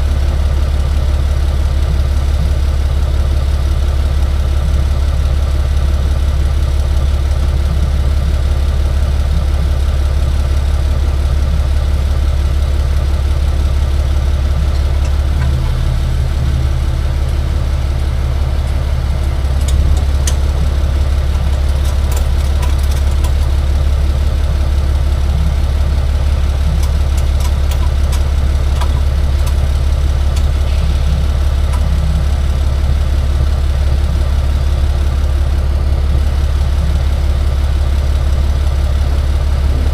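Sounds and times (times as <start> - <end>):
truck engine low drone: 0.0 - 39.9.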